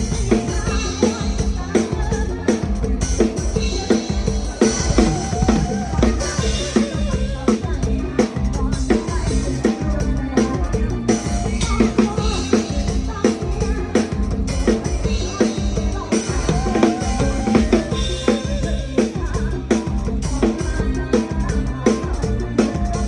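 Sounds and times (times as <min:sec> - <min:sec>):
band playing: 0:00.0 - 0:23.0.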